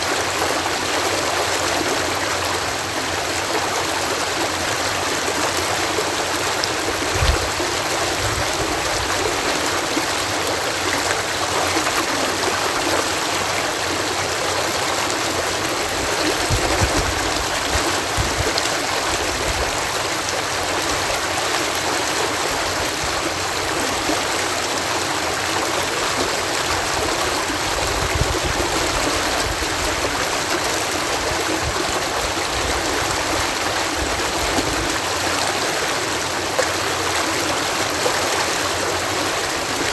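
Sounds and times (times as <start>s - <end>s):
water rushing through lock: 0.0s - 39.9s.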